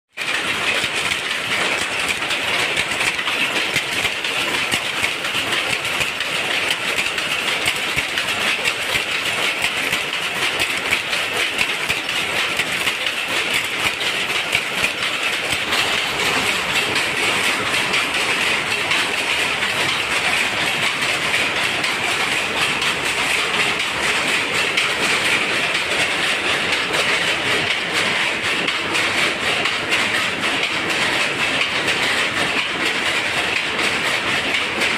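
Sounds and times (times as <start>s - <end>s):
power loom clattering: 0.1s - 34.9s.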